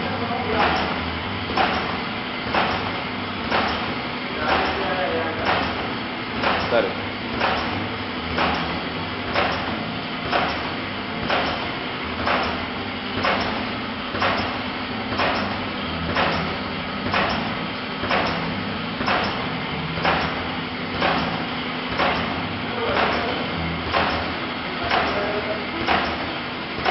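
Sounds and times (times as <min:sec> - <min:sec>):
steady motor hum: 0:00.0 - 0:26.9.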